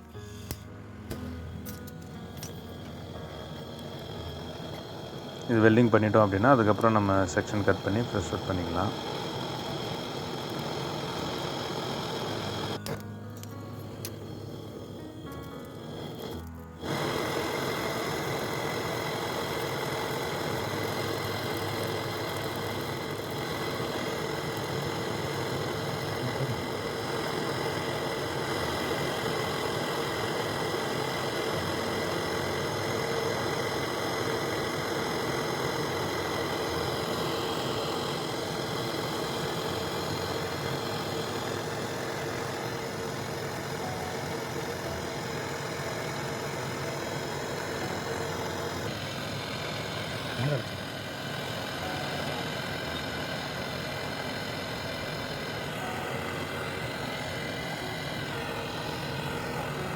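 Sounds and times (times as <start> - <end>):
compressor motor hum: 0.0 - 59.9
continuous hiss of air: 0.0 - 59.9.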